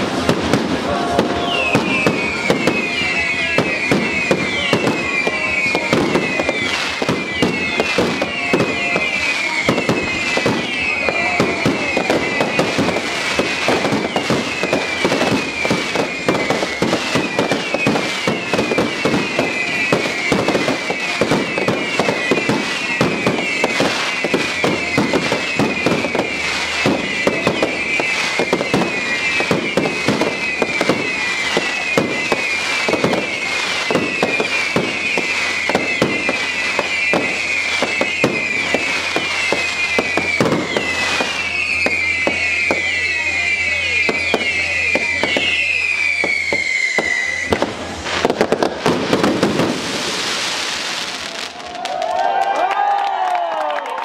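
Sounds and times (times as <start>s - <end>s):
high falling whistle tone: 0.0s - 52.6s
fireworks bursts and crackling: 0.0s - 54.0s.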